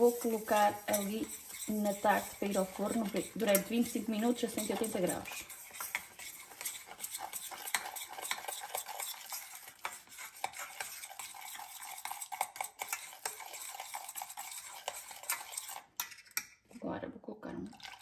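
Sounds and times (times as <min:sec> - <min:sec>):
utensil scraping steel saucepan: 0:00.0 - 0:16.6.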